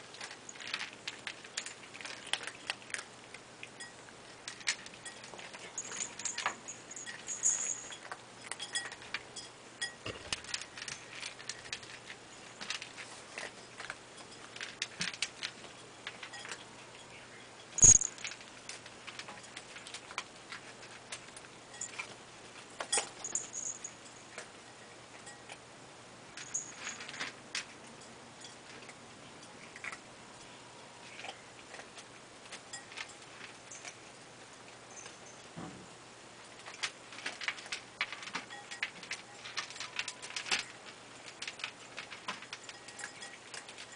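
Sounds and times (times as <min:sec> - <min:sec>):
cats eating from bowls: 0:00.0 - 0:43.9.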